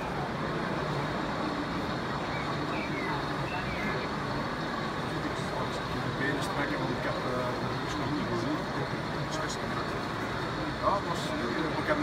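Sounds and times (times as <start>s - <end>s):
crowd hubbub: 0.0s - 12.0s
faint distant chatter: 0.0s - 12.0s.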